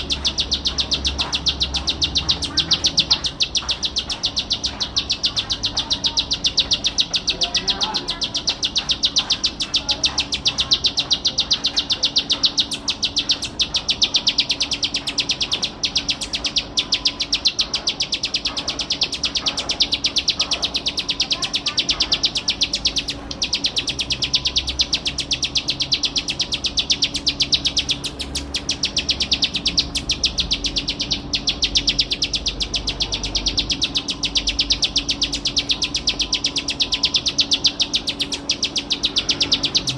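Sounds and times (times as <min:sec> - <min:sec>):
bird singing ticking trill: 0:00.0 - 0:39.9.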